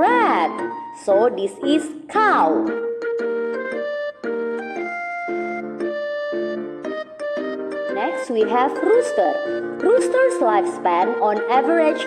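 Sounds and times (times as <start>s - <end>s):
light keyboard melody: 0.0s - 12.0s.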